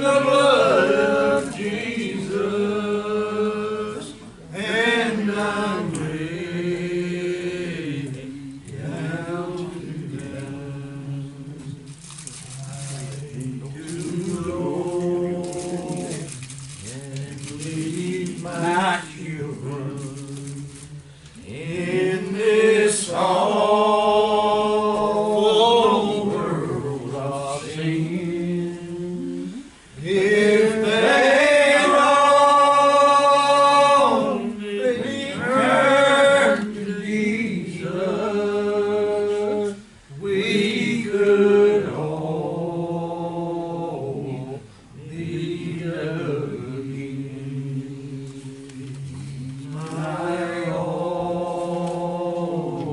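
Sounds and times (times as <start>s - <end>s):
choir singing long notes: 0.0s - 12.0s, 12.6s - 52.9s.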